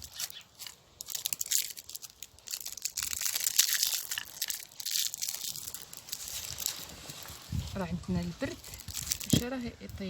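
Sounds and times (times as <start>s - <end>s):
dried herbs crackling and crunching: 0.0s - 10.0s.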